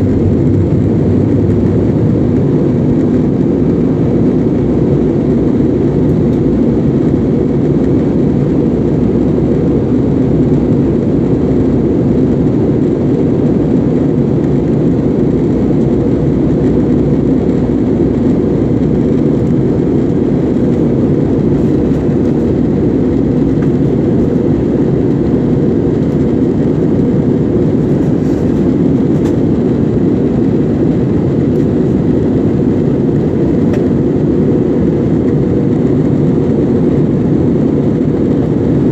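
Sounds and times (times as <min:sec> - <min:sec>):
airliner engine and airflow drone: 0:00.0 - 0:38.9.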